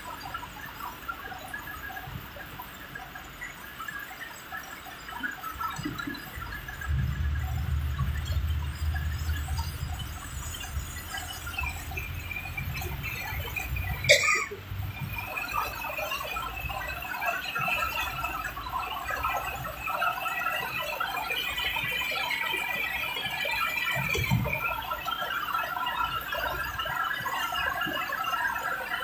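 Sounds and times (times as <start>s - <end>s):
heavy rain on a car: 5.4s - 29.0s.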